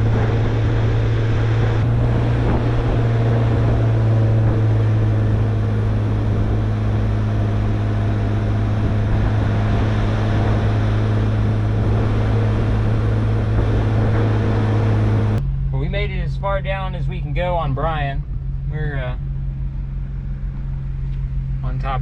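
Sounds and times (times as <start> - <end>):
car engine hum: 0.0 - 22.0
wind: 0.0 - 22.0.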